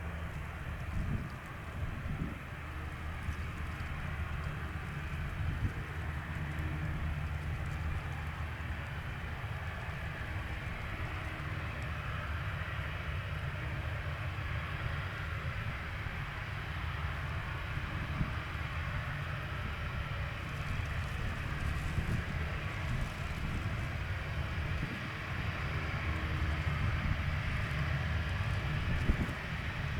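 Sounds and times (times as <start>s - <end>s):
jet engines running: 2.2s - 29.9s.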